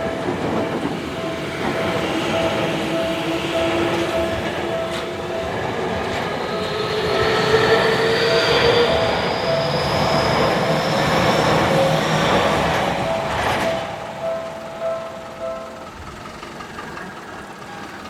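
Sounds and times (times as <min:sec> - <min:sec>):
electric train motor whine: 0:00.0 - 0:16.8
level crossing warning bell: 0:00.0 - 0:18.0
train wheels rumbling on rails: 0:00.0 - 0:18.0.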